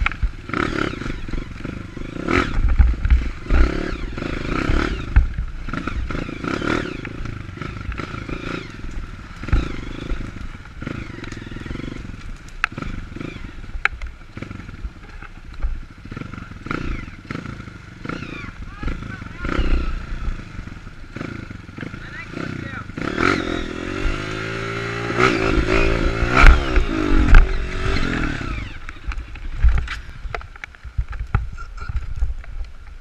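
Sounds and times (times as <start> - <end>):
dirt bike engine revving: 0.0 - 32.3.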